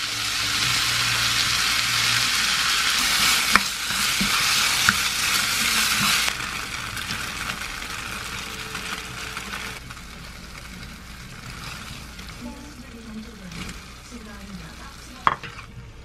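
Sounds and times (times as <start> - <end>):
bacon and onions sizzling: 0.0 - 16.0.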